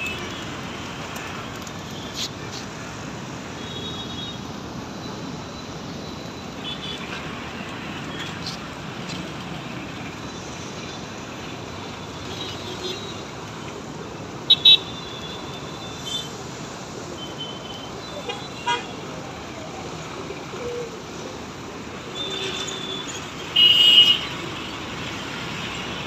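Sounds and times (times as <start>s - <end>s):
city road traffic hum: 0.0s - 26.0s.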